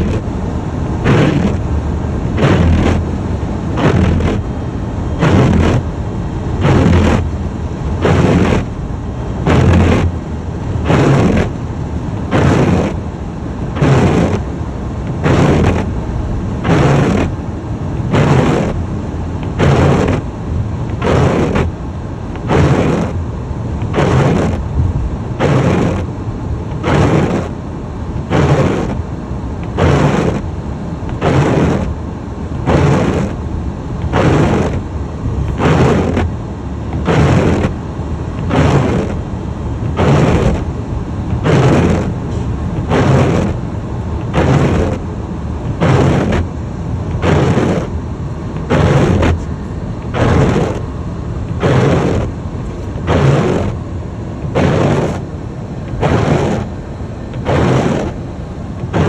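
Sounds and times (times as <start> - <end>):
car driving on snowy road: 0.0 - 59.0
windshield wipers swishing: 0.0 - 59.0.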